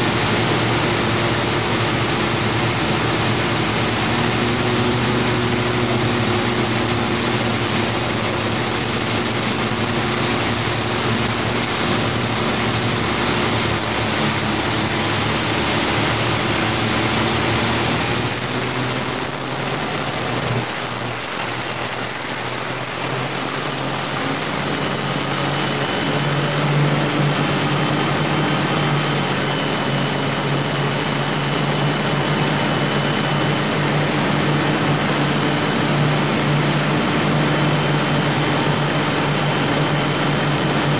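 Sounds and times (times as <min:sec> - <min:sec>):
powerboat diesel engines: 0:00.0 - 0:40.9.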